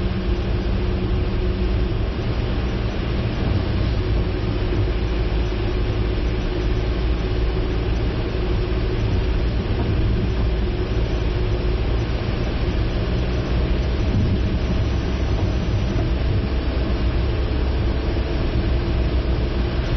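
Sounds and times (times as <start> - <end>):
car road and engine rumble: 0.0 - 19.9
faint steady hum: 0.0 - 19.9.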